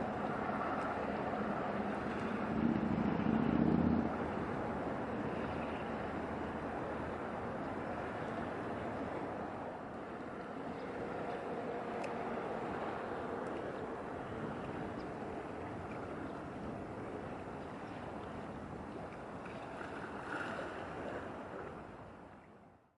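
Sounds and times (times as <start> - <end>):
passing ship: 0.0 - 22.9
water noise: 0.0 - 22.9
wind: 0.0 - 23.0.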